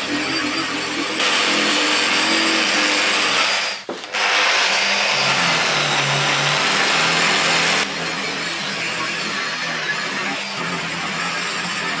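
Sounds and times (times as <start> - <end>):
angle grinder motor whine: 0.0 - 12.0.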